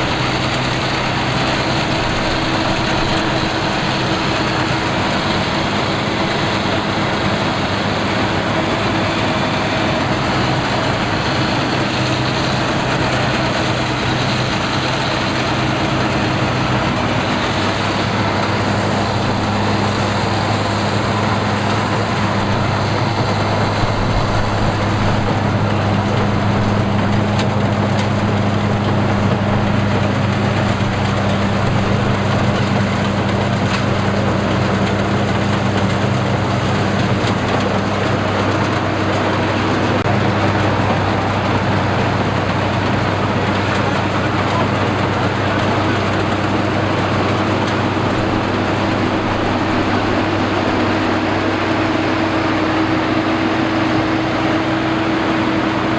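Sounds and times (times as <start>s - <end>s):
combine harvester engine running: 0.0s - 55.9s
machinery clatter: 0.0s - 55.9s.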